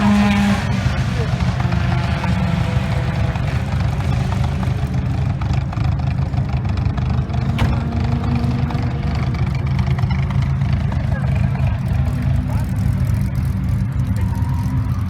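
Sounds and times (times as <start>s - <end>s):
car engine exhaust rumbling: 0.0s - 15.0s.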